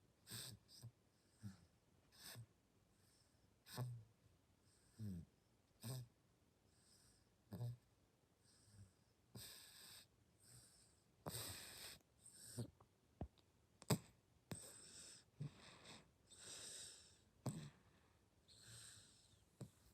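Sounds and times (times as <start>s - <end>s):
baby snoring softly: 0.2s - 4.1s, 4.8s - 6.2s, 6.8s - 7.8s, 8.5s - 12.8s, 13.8s - 19.9s.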